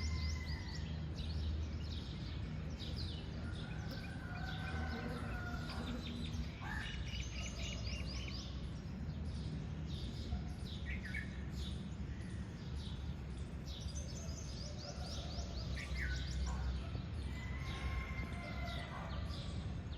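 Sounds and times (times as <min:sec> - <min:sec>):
birds chirping and twittering: 0:00.0 - 0:19.9.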